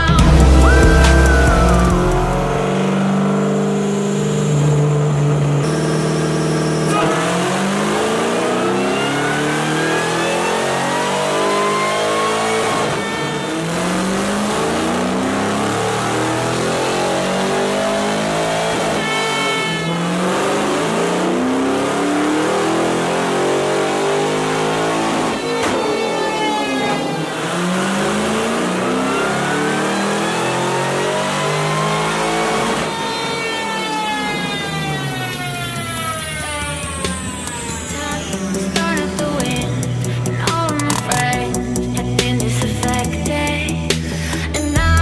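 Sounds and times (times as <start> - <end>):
car engine revving on a dyno: 0.0 - 44.5
supercharger whine: 0.0 - 45.0.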